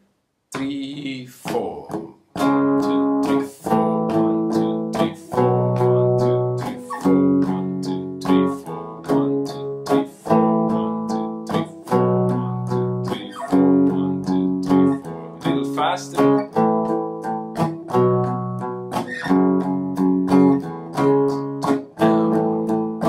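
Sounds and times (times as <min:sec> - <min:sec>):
electric guitar power chords: 0:02.4 - 0:23.0.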